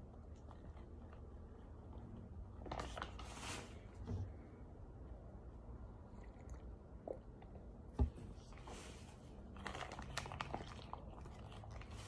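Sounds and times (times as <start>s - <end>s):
faint crackling and crunching: 0.0s - 4.6s, 6.0s - 12.0s.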